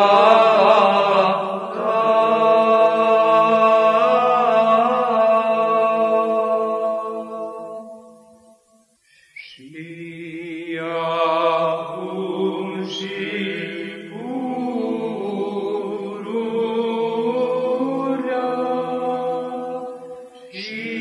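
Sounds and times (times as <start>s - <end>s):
monks chanting melodic line: 0.0s - 8.5s, 9.7s - 21.0s.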